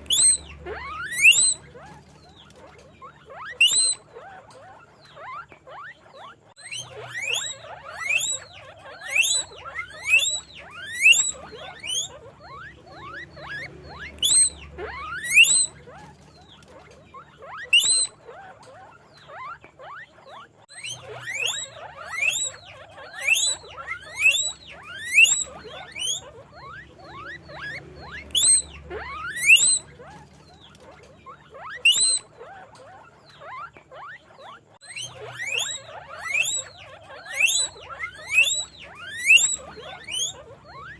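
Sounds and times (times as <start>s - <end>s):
guinea pig squeaking: 0.0s - 40.9s.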